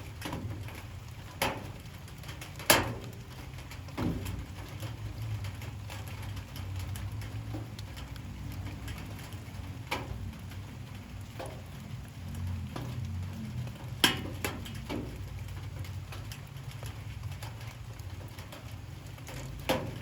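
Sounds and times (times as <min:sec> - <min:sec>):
drips ticking: 0:00.0 - 0:20.0
light rain falling: 0:00.0 - 0:20.0.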